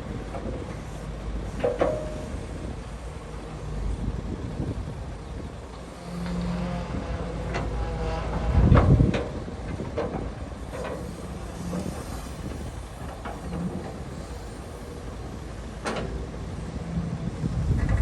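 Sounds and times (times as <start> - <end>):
excavator diesel engine rumbling: 0.0 - 18.0.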